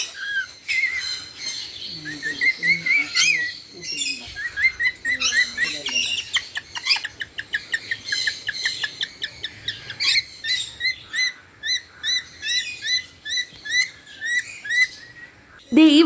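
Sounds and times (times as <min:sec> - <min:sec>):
parrots chirping: 0:00.0 - 0:16.0.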